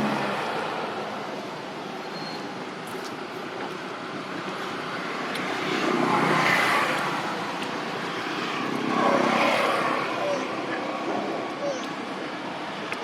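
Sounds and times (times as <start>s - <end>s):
road vehicle passing: 0.0s - 12.9s.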